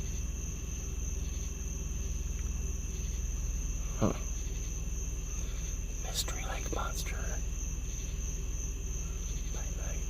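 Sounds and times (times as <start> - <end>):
crickets chirping: 0.0 - 10.0
low steady rumble: 0.0 - 10.0.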